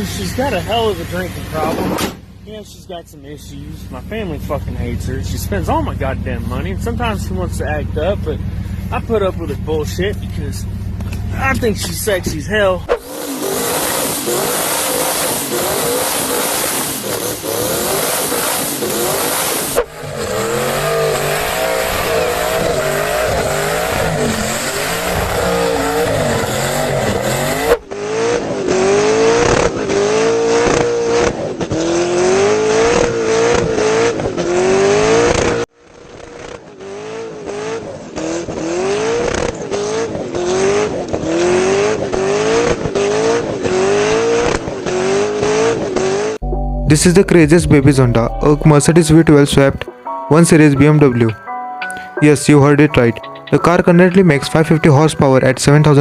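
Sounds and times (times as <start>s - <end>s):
car engine revving hard: 0.0s - 46.5s.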